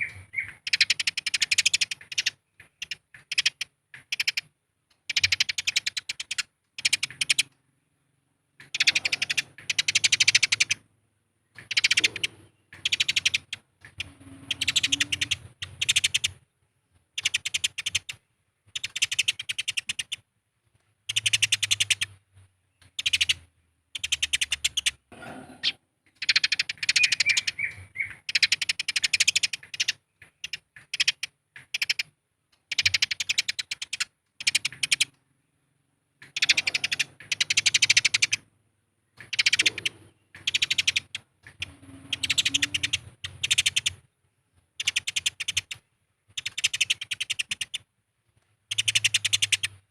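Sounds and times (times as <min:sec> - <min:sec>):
sparrows chirping harshly: 0:00.0 - 0:16.5, 0:17.1 - 0:20.3, 0:21.0 - 0:47.9, 0:48.7 - 0:49.9.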